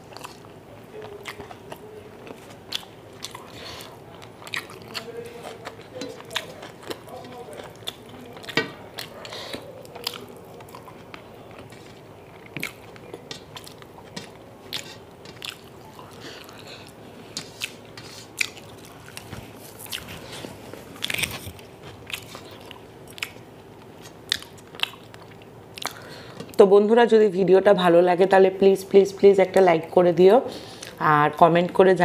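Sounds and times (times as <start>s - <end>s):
chewing with mouth clicks: 0.0s - 26.6s.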